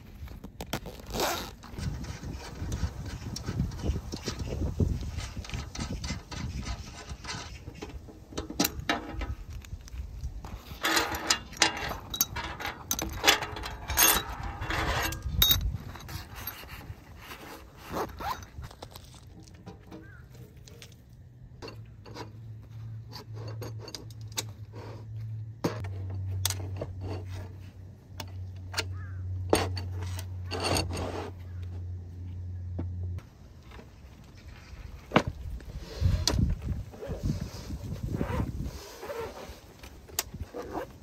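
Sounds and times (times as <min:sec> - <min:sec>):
handling scraping and rustling: 0:00.0 - 0:41.0.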